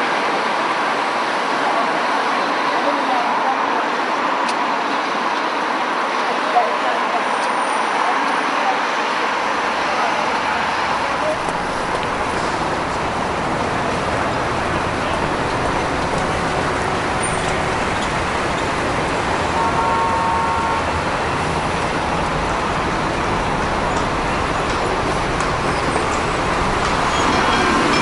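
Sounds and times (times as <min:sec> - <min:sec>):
city street traffic: 0:00.0 - 0:28.0.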